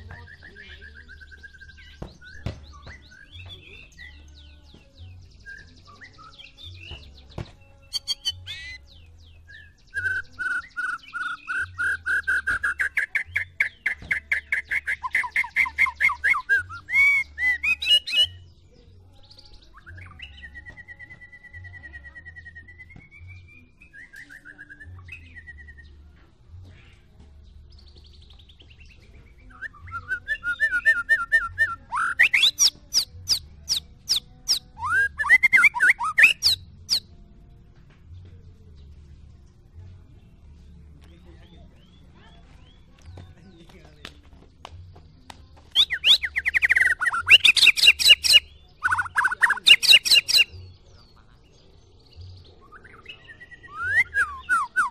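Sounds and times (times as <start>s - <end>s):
bird singing rapid whistled notes: 0.0s - 26.1s, 27.7s - 37.1s, 45.7s - 54.9s.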